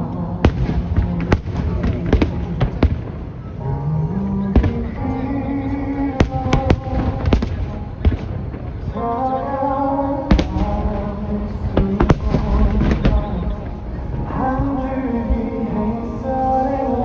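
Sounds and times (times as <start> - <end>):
fireworks bursting: 0.0 - 17.0
music: 0.0 - 17.0.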